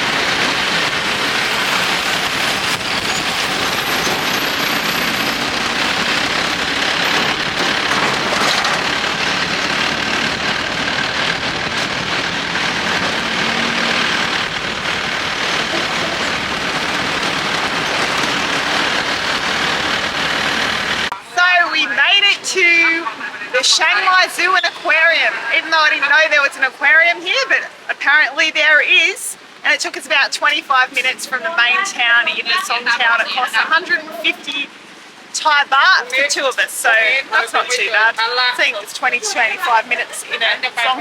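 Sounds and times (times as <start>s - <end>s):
truck engine and road noise: 0.0s - 41.0s.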